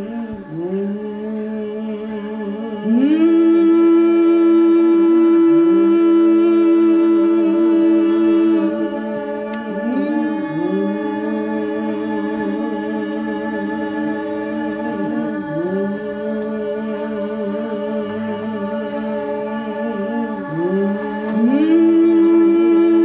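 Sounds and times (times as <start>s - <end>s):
voices humming held notes: 0.0s - 23.0s.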